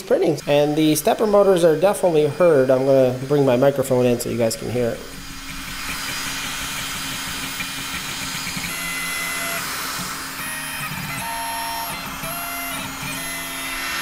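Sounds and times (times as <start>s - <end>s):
stepper motors whining: 0.0s - 14.0s.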